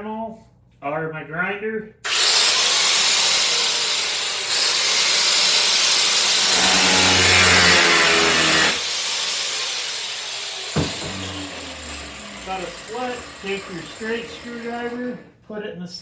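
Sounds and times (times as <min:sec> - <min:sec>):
power grinder cutting screw: 0:02.1 - 0:15.2.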